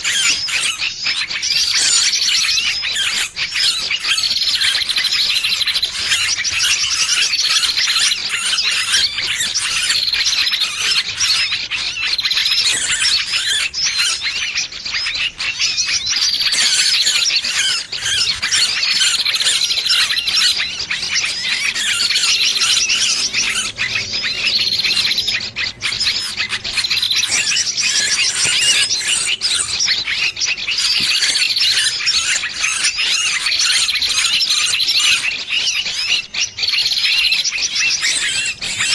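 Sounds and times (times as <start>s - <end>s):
small bird distress calls: 0.0s - 38.9s.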